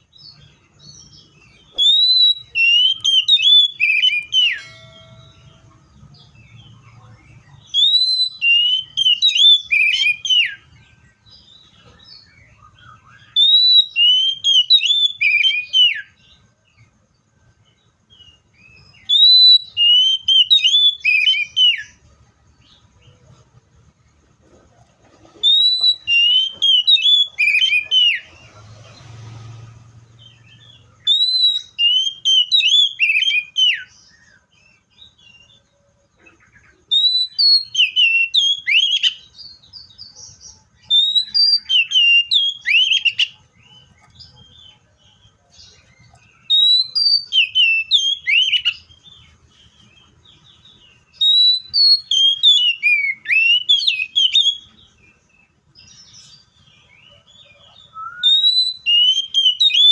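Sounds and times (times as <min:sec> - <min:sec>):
bird singing whistled notes: 0:00.0 - 0:23.6, 0:25.2 - 0:59.9.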